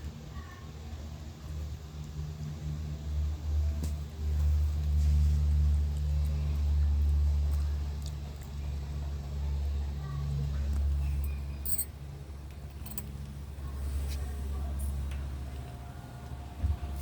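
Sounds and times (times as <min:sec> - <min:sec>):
idling motor rumble: 0:00.0 - 0:17.0.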